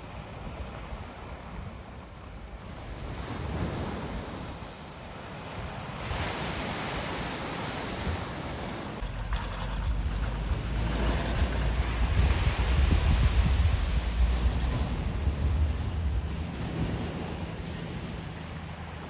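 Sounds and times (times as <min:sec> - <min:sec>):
sea waves washing ashore: 0:00.0 - 0:19.0
wind buffeting microphone: 0:00.0 - 0:19.0.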